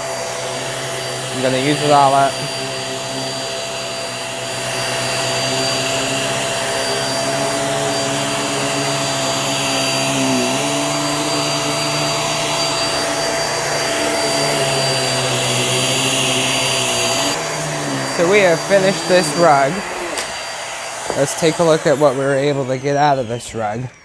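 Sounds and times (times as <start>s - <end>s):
vacuum cleaner motor hum: 0.0s - 24.0s.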